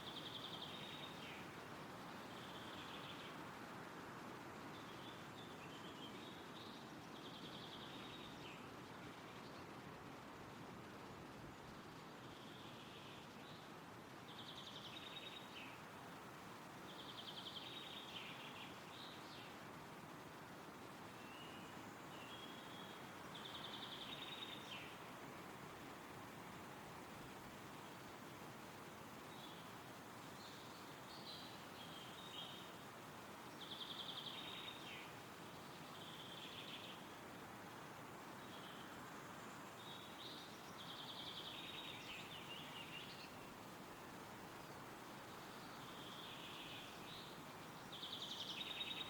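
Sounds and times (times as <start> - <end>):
small birds singing: 0.0 - 3.4, 4.6 - 9.7, 12.2 - 49.0
wind rustling through trees: 0.0 - 49.0.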